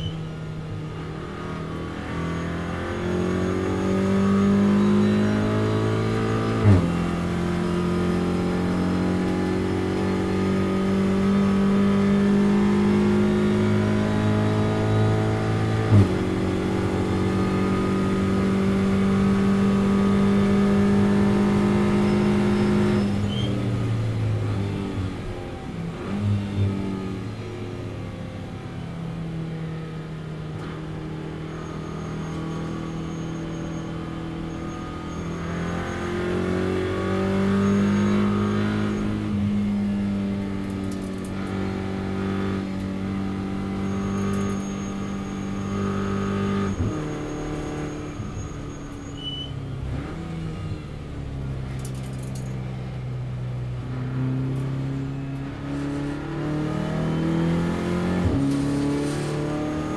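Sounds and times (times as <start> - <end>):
race car engine revving: 0.9 - 27.1, 30.6 - 49.1, 49.8 - 59.9.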